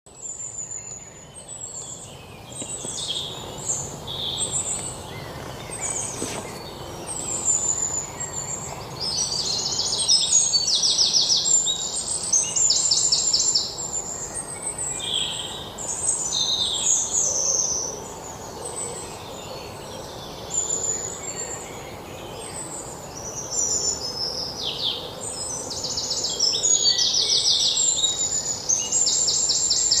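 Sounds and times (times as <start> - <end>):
songbirds singing: 0.1 - 30.0.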